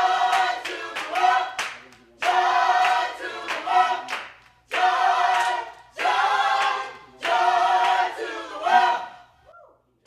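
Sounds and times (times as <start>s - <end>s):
choir singing a cappella: 0.0s - 9.5s.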